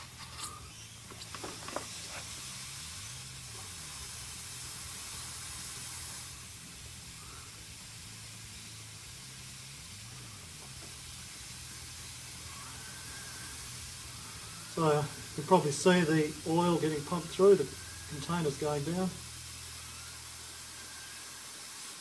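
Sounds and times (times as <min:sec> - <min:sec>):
compressed air hissing: 0:00.0 - 0:22.0.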